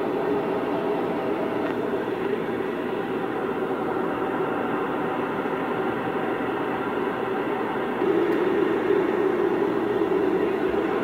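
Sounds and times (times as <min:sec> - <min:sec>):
muffled airliner cockpit rushing noise: 0:00.0 - 0:11.0.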